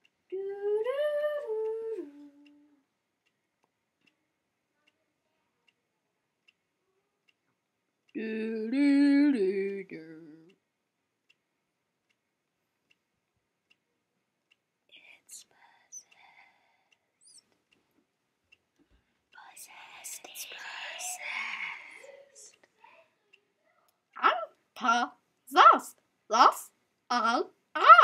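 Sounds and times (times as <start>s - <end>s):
faint regular ticks: 0.0s - 8.2s, 9.6s - 24.6s.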